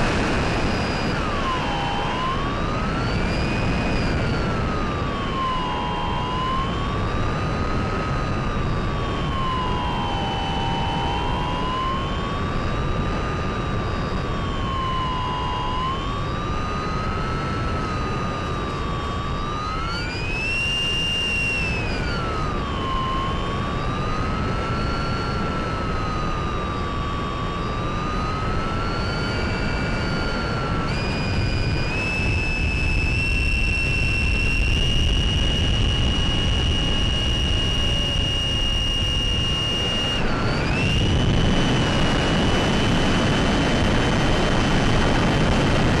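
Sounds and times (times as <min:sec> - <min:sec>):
electric motor whine: 0:00.0 - 0:46.0.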